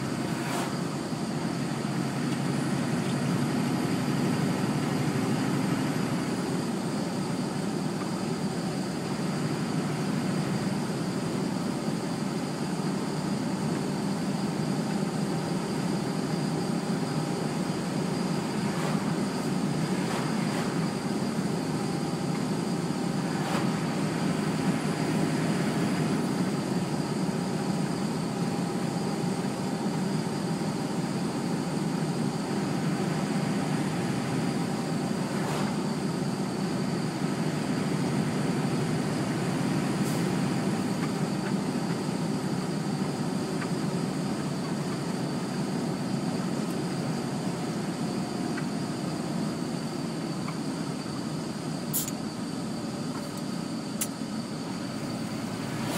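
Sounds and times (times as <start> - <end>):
vehicle road noise rumble: 0.0 - 55.9.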